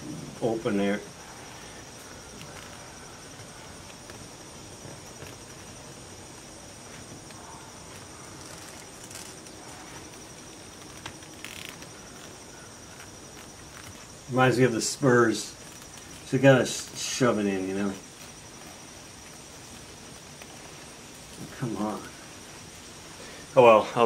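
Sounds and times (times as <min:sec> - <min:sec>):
fabric and leather rustling: 0:01.2 - 0:22.0.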